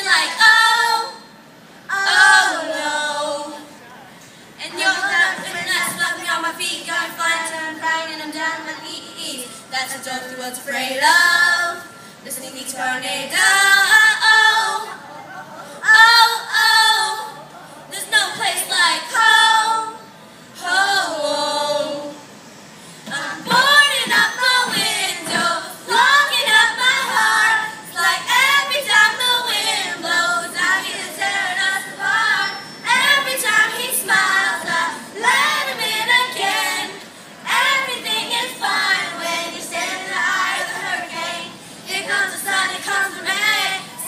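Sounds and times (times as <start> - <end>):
youth choir singing pop song: 0.0 - 3.8, 4.6 - 15.0, 15.8 - 22.4, 23.0 - 44.0.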